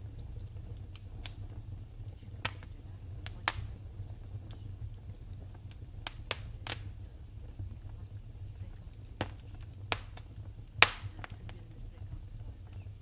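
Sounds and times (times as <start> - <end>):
low fire rumble: 0.0 - 13.0
sharp pops from fire: 0.0 - 13.0
wood fire crackling: 0.0 - 13.0.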